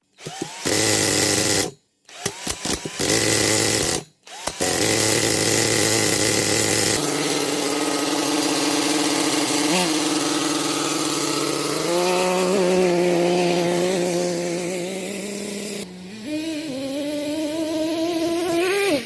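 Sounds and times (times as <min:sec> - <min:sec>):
rc truck engine buzzing: 0:00.2 - 0:19.0.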